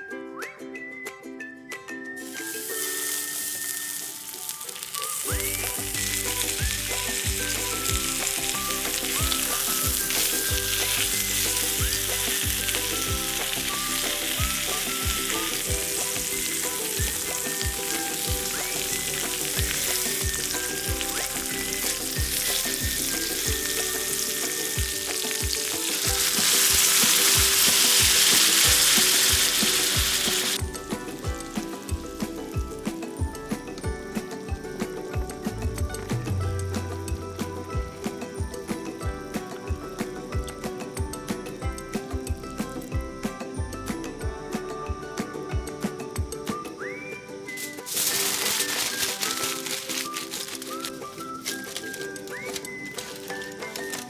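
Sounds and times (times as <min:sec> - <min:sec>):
background music with a beat: 0:00.0 - 0:54.0
meat sizzling in a pan: 0:02.2 - 0:40.9, 0:47.6 - 0:54.0.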